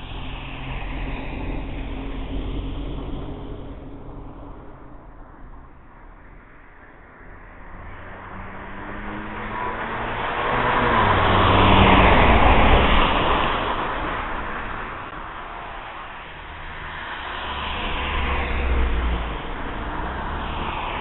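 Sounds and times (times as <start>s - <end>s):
vehicle passing by: 0.0s - 21.0s.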